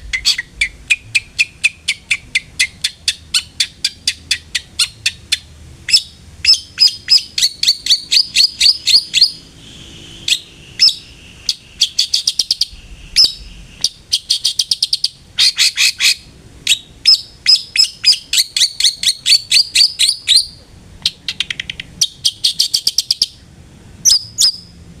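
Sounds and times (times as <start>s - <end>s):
bird singing sharp high notes: 0.0s - 20.6s.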